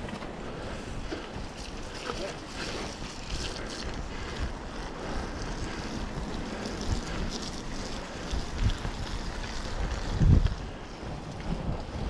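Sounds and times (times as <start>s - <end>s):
steady rushing noise: 0.0s - 12.0s
wind buffeting microphone: 0.0s - 12.0s.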